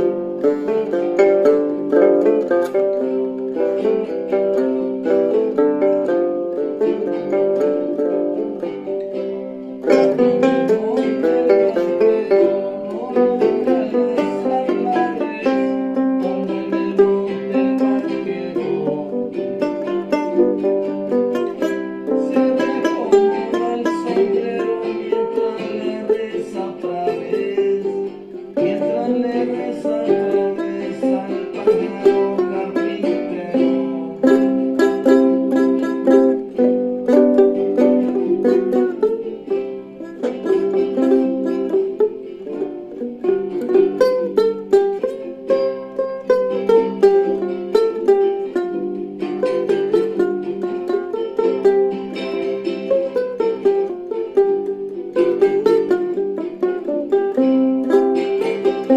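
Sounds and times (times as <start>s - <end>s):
small plucked string instrument: 0.0s - 58.9s.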